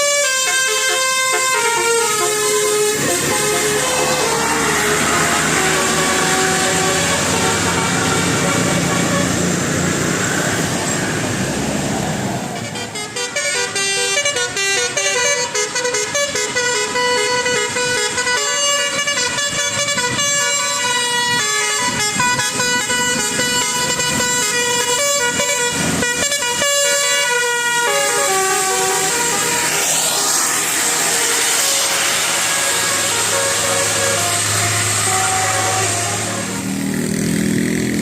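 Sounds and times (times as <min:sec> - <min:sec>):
multi-tone bus horn playing tune: 0:00.0 - 0:11.2, 0:12.4 - 0:38.0
engine and road noise: 0:00.0 - 0:38.0.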